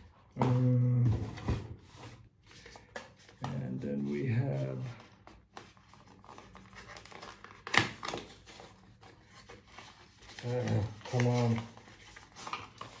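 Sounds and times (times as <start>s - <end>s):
packaging rustling: 2.0s - 13.0s.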